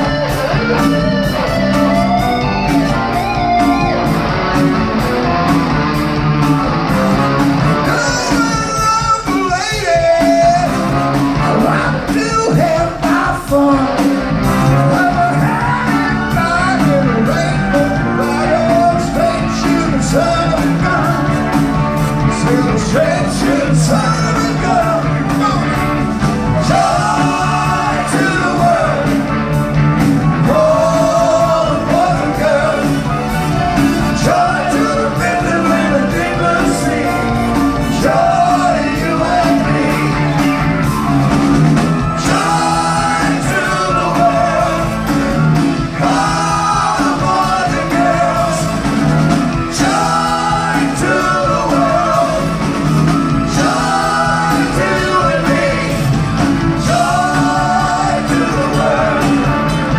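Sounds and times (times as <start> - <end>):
live rock band playing: 0.0 - 59.9
lead singer singing: 7.6 - 41.1, 42.0 - 59.9.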